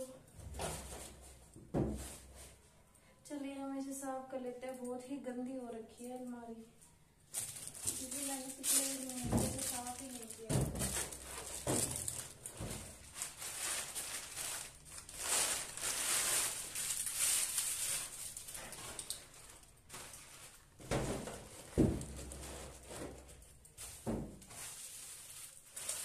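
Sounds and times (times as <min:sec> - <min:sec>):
clothes and plastic rustling: 0:00.0 - 0:26.0.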